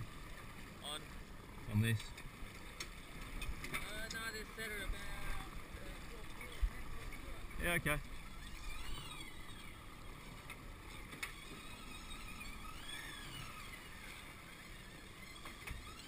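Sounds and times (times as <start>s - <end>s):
fishing reel drag whining: 0.0s - 16.0s
wind and sea noise: 0.0s - 16.0s.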